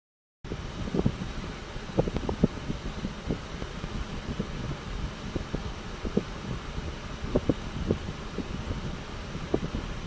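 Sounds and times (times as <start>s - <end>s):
wind on microphone: 0.5s - 10.0s.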